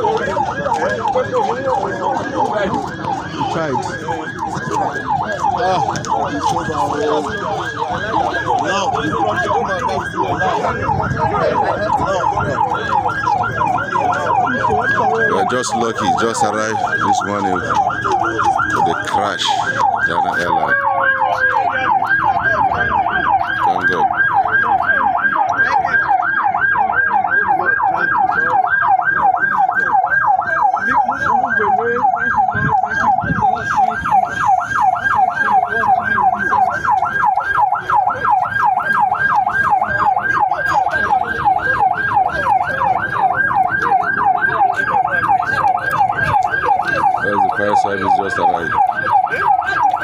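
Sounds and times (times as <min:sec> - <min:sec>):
emergency sirens yelping: 0:00.0 - 0:50.0.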